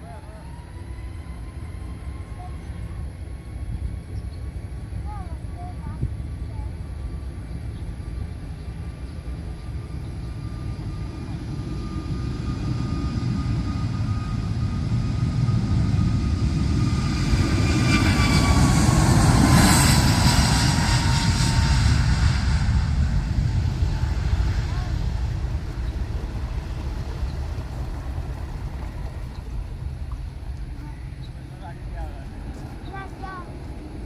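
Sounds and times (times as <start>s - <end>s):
jet airliner passing by: 0.0s - 34.0s.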